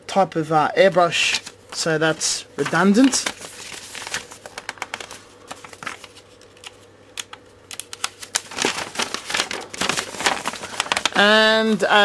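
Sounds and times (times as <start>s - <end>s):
paper rustling and crinkling: 0.9s - 11.6s.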